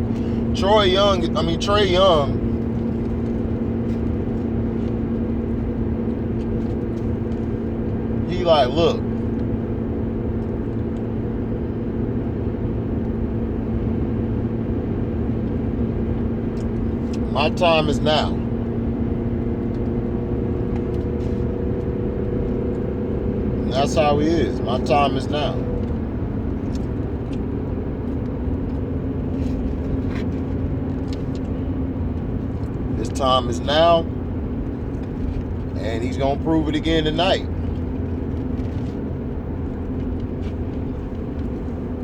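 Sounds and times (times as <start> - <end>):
motor vehicle rumble: 0.0 - 42.0.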